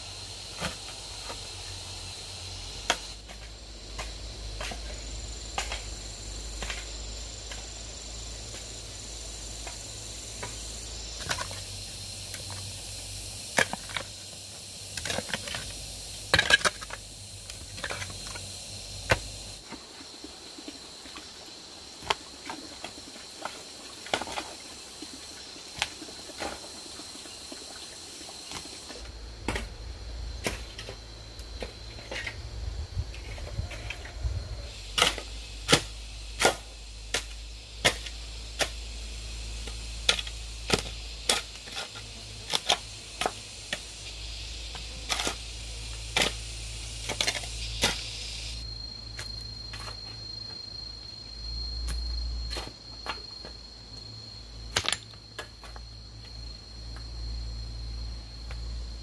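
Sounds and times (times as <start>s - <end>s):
high insect chirring: 0.0s - 19.6s, 20.2s - 59.0s.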